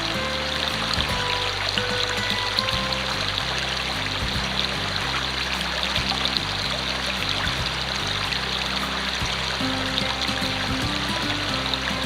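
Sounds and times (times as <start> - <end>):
music with low bass line: 0.0 - 12.0.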